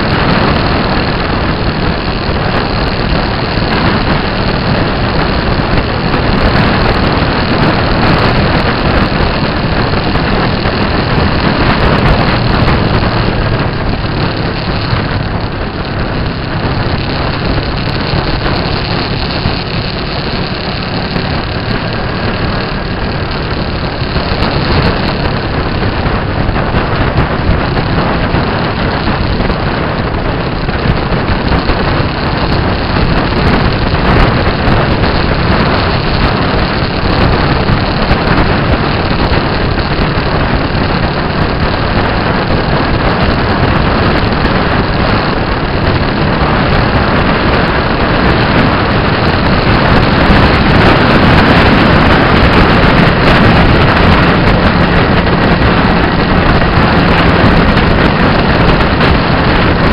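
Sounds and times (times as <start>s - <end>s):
motorcycle engine: 0.0s - 59.9s
wind rush on microphone: 0.0s - 59.9s.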